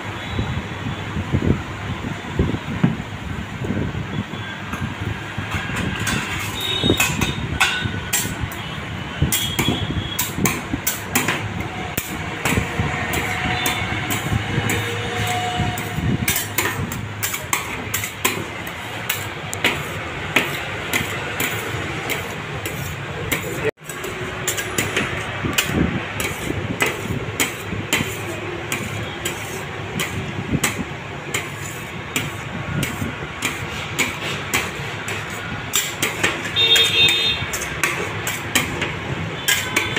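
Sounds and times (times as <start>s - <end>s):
metal spatulas clacking on plate: 5.9s - 8.6s, 9.3s - 39.9s.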